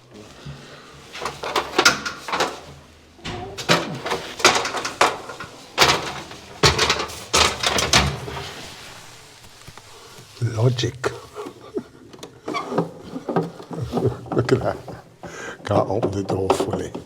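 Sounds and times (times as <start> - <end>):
things being moved in cupboard: 0.0 - 17.0
cupboard door opening: 0.2 - 9.1, 11.4 - 17.0.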